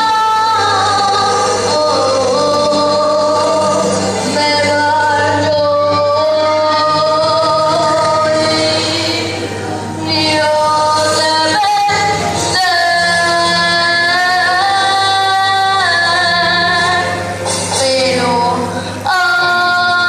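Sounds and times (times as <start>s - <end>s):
band accompaniment with bass: 0.0s - 20.0s.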